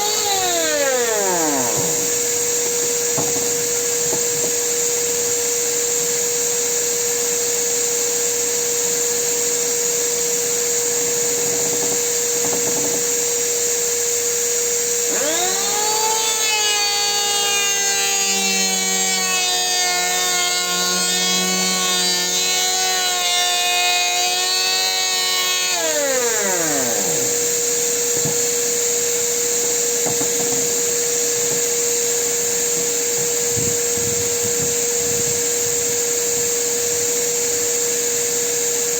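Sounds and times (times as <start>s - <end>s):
electric planer motor whine: 0.0s - 38.9s.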